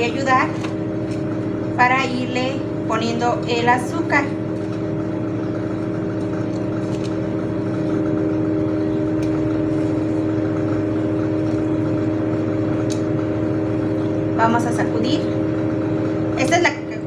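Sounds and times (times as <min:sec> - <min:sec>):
steady motor hum: 0:00.0 - 0:17.0.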